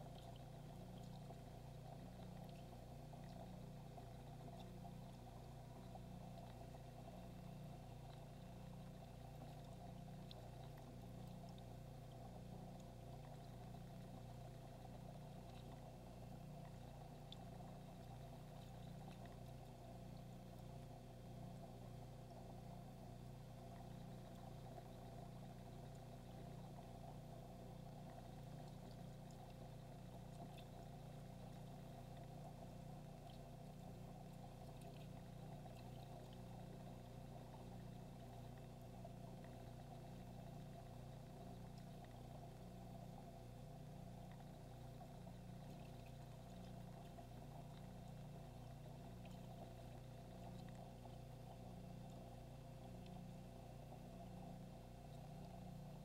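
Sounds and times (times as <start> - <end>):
aquarium filter hum: 0.0 - 56.0
small ticks: 0.0 - 56.0
water trickling: 0.0 - 56.0.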